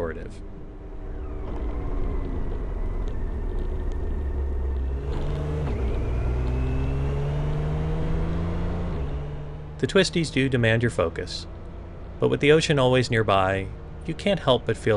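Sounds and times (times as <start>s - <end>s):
motorcycle engine running: 0.5s - 14.9s.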